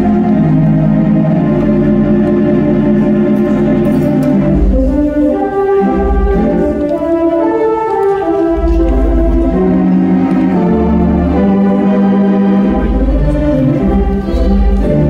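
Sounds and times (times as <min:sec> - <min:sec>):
pipe organ playing: 0:00.0 - 0:15.0.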